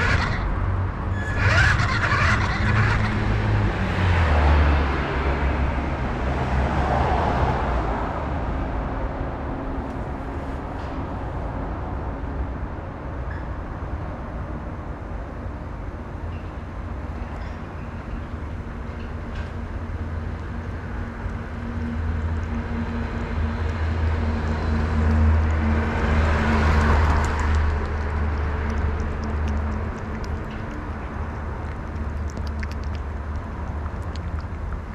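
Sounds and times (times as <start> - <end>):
vehicle engine humming: 0.0 - 11.5, 16.7 - 34.9
road noise: 0.0 - 34.9.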